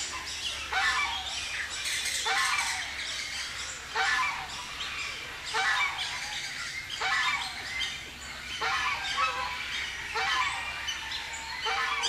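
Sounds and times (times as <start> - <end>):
birds chirping: 0.0 - 12.0
loud bird call: 0.0 - 12.0.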